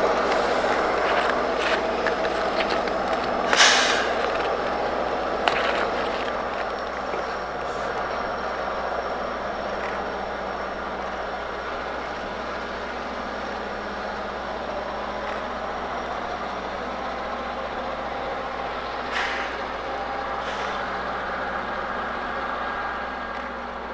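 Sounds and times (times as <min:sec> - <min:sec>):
heavy diesel engines running: 0:00.0 - 0:23.9.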